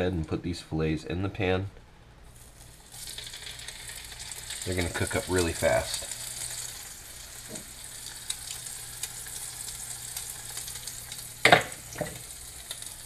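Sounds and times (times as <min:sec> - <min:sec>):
fish frying in butter: 0:02.3 - 0:13.0.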